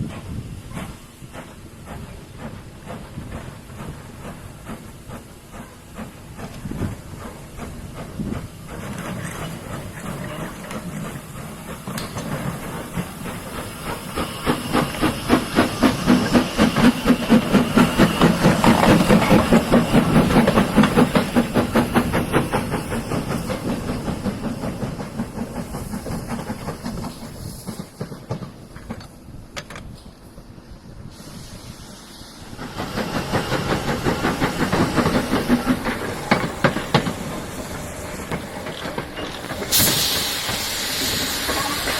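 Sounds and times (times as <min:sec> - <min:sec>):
steam hiss: 0:00.0 - 0:41.9
steam locomotive exhaust beats: 0:00.0 - 0:41.9.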